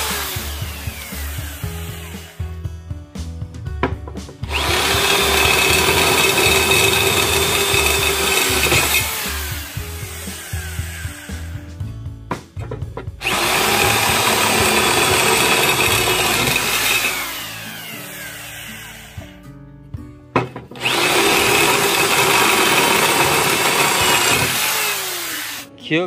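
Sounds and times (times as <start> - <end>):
electric drill whining through steel: 0.0 - 2.6, 4.5 - 11.8, 13.2 - 19.5, 20.8 - 25.8.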